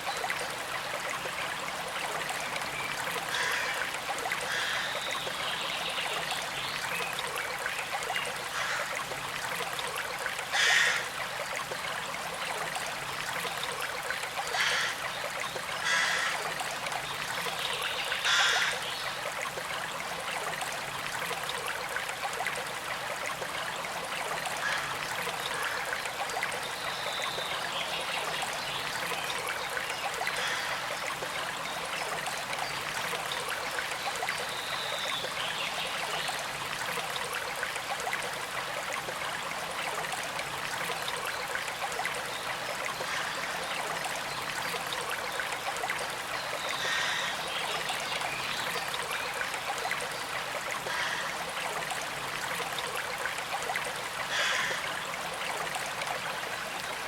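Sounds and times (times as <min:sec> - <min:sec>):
creek flowing and trickling: 0:00.0 - 0:57.0.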